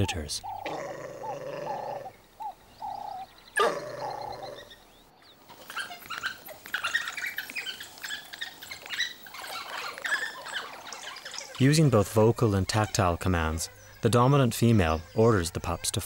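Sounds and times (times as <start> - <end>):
wild dogs calling: 0.0 - 15.2.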